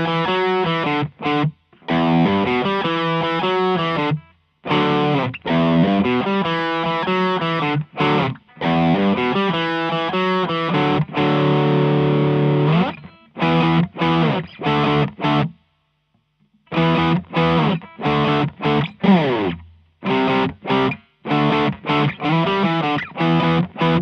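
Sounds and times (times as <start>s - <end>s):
overdriven electric guitar chords: 0.0s - 15.6s, 16.7s - 24.0s.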